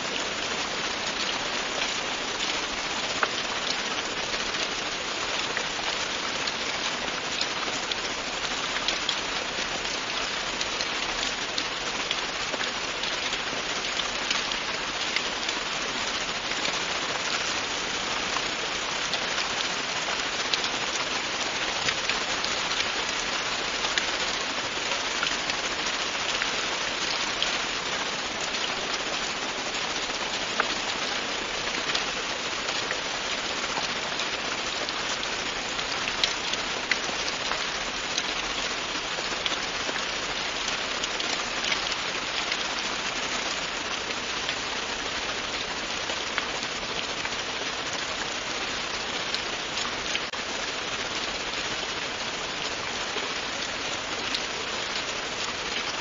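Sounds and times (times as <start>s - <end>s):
raindrops ticking on a surface: 0.0s - 56.0s
steady rain falling: 0.0s - 56.0s.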